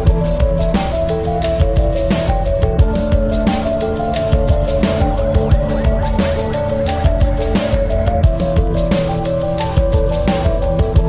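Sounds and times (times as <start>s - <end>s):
melodic line of held notes: 0.0s - 11.0s
regular drum hits: 0.0s - 11.0s.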